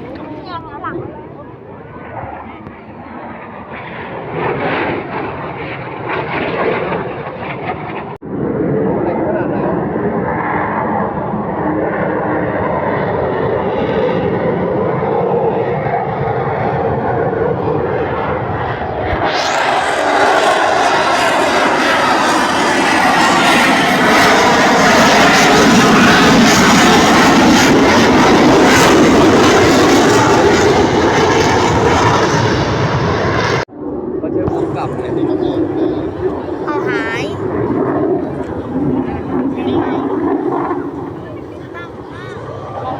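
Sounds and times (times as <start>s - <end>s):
jet engine running: 0.0s - 42.9s.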